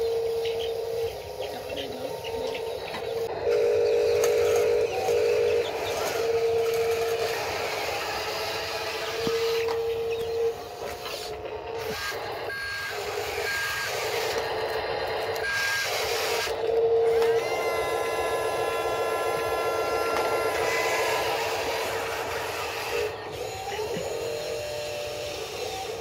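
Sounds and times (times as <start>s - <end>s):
toy motor whirring whine: 0.0s - 26.0s.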